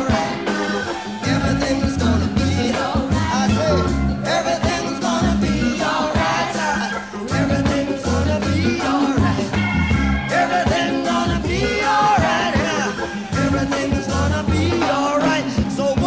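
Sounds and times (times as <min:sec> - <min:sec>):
upbeat song with vocals and drums: 0:00.0 - 0:16.0.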